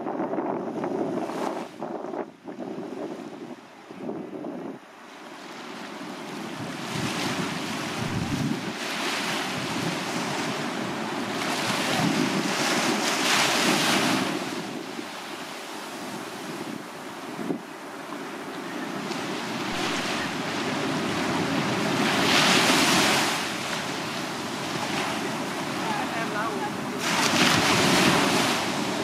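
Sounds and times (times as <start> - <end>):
waves washing up a beach: 0.1 - 29.0.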